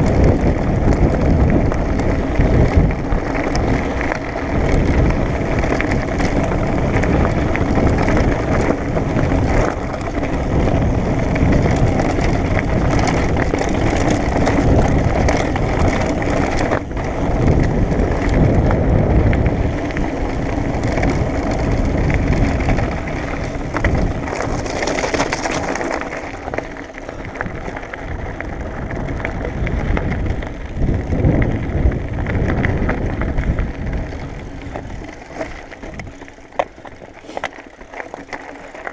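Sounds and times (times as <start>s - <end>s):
bike tyres crunching on gravel: 0.0s - 38.9s
wind buffeting microphone: 0.0s - 38.9s.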